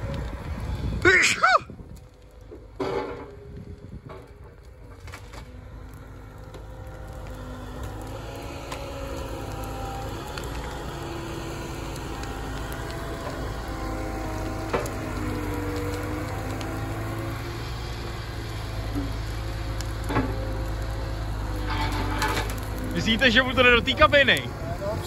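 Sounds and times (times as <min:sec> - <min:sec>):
excavator engine and hydraulics whining: 0:00.0 - 0:25.0
fire crackling and hissing: 0:00.0 - 0:25.0.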